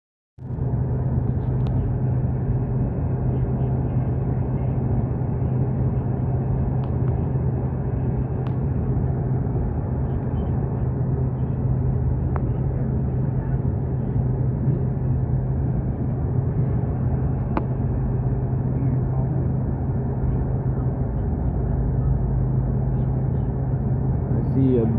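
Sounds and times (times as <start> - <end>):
car road and engine drone: 0.4 - 24.9
constant low hum: 0.4 - 24.9.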